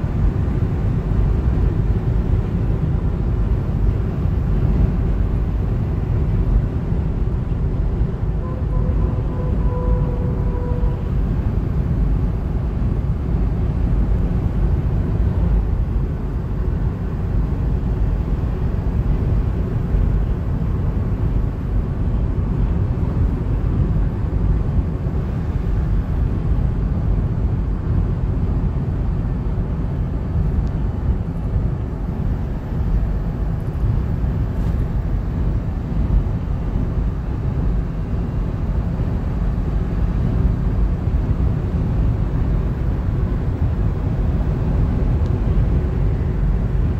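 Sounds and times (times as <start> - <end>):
car cabin road rumble: 0.0 - 46.9.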